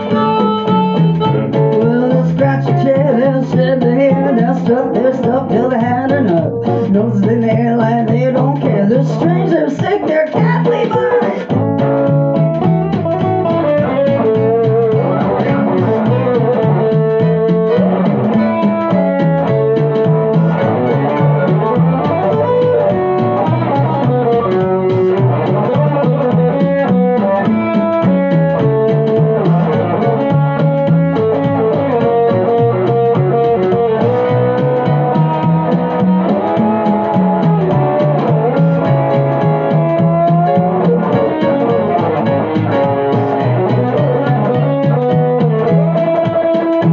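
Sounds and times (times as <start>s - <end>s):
acoustic-electric guitar: 0.0s - 46.9s
bass line: 0.0s - 46.9s
steady beat: 0.0s - 46.9s
electronic keyboard: 9.2s - 46.9s.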